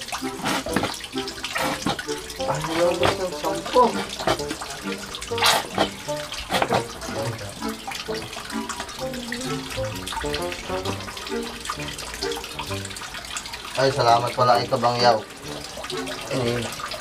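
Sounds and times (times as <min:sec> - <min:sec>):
background music melody: 0:00.0 - 0:17.0
running water splashing: 0:00.0 - 0:17.0.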